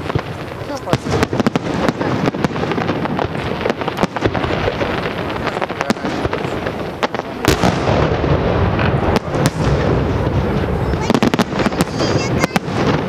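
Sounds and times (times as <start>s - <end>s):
firework crackling: 0.0s - 13.0s
firework shells bursting: 0.0s - 13.0s.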